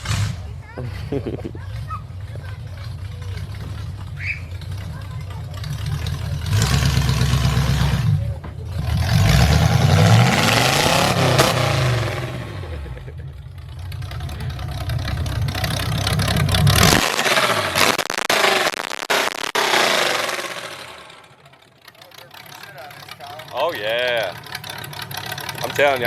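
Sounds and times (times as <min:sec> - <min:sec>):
car engine revving and idling: 0:00.0 - 0:17.9, 0:19.6 - 0:26.0.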